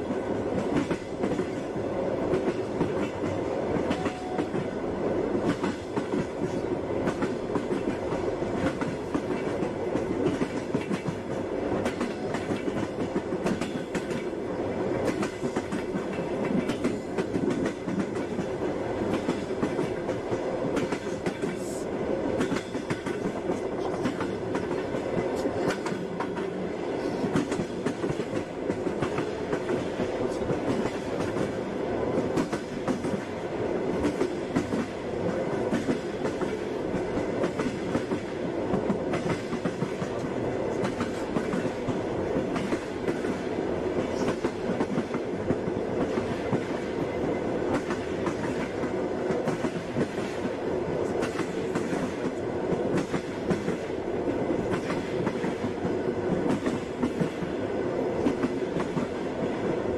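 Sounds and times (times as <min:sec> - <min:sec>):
train wheels clattering: 0:00.0 - 0:59.8
train rumbling: 0:00.0 - 0:59.9.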